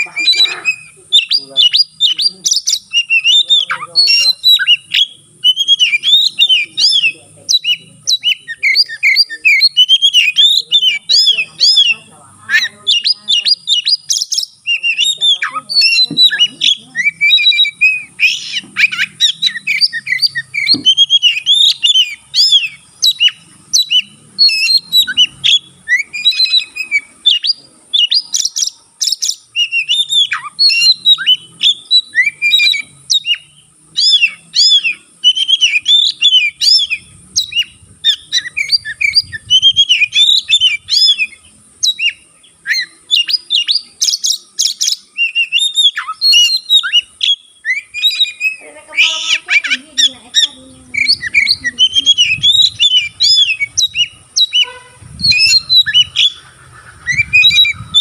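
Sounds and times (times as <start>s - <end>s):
bird rasping call: 0.0s - 58.0s
bird singing whistled phrases: 0.0s - 58.0s.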